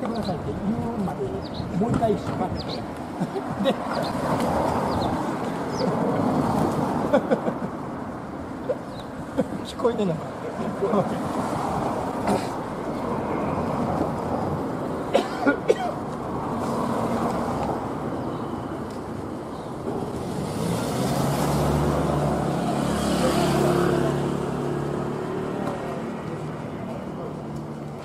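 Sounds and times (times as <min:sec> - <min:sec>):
street noise: 0:00.0 - 0:28.0.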